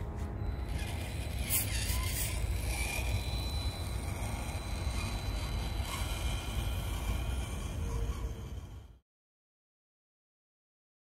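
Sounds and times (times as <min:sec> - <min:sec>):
small electric motor and gears whining: 0:00.0 - 0:09.0.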